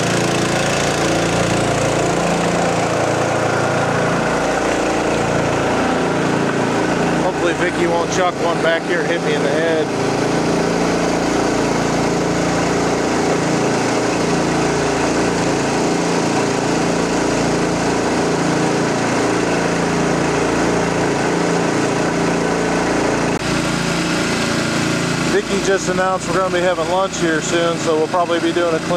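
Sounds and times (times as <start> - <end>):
small gasoline engine running: 0.0 - 28.9.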